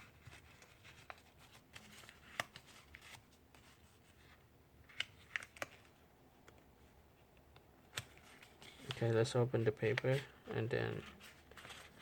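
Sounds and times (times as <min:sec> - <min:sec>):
paper rustling and crinkling: 0:00.0 - 0:06.0, 0:07.9 - 0:12.0.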